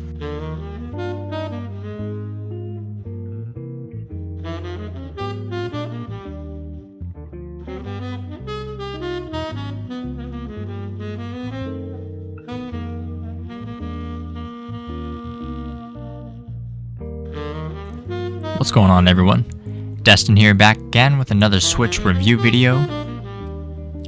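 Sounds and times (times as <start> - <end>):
bass line: 0.0 - 24.0
saxophone melody: 0.0 - 24.0.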